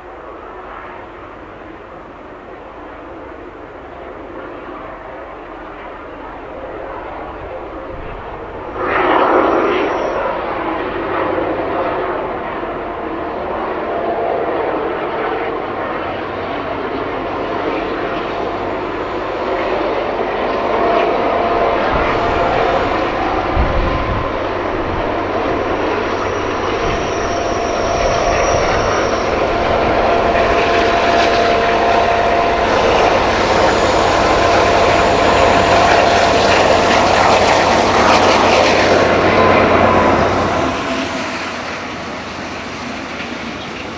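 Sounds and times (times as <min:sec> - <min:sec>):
diesel locomotive engines roaring: 0:00.0 - 0:43.9.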